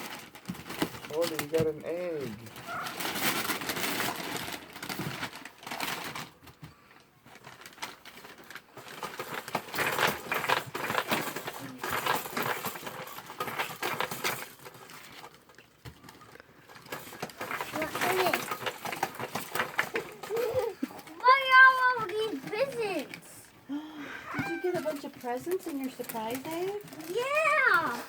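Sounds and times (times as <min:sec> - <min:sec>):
wrapper crinkling and tearing: 0:00.0 - 0:23.3, 0:24.3 - 0:28.0.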